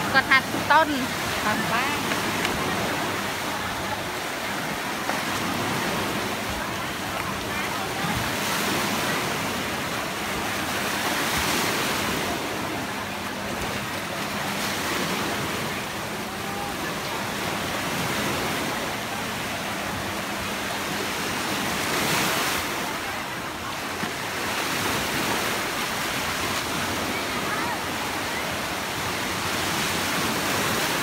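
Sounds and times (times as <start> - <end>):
sea waves washing: 0.0 - 31.0.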